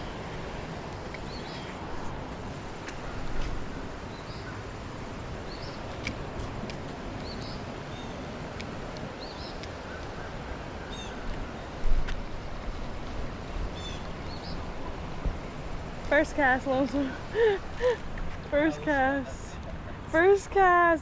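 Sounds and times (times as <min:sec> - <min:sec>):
flowing creek water: 0:00.0 - 0:21.0.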